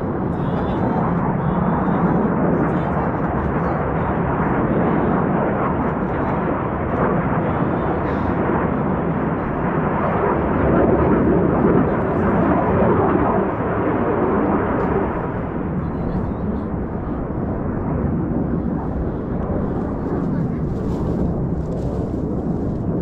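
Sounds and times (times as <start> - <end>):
jet roar: 0.0 - 23.0.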